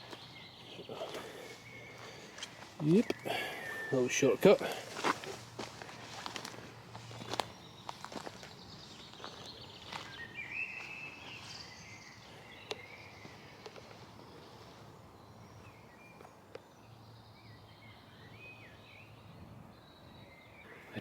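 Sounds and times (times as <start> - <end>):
faint songbirds chirping: 0.0 - 21.0
quiet outdoor hiss: 0.0 - 21.0.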